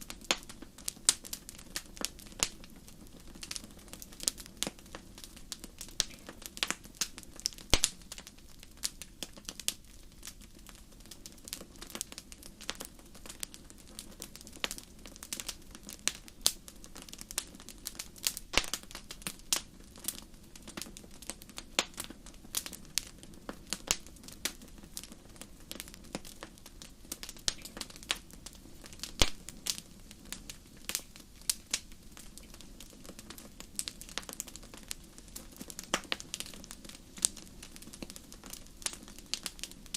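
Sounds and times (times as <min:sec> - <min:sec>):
low roar of flames: 0:00.0 - 0:39.9
wood fire crackling and popping: 0:00.0 - 0:39.9.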